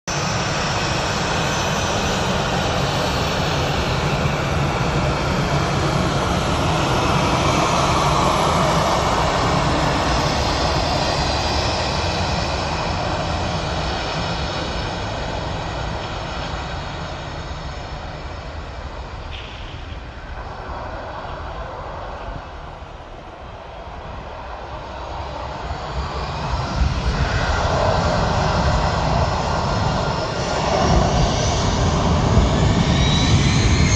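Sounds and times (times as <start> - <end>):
jet engines rumbling and hissing: 0.1 - 33.9.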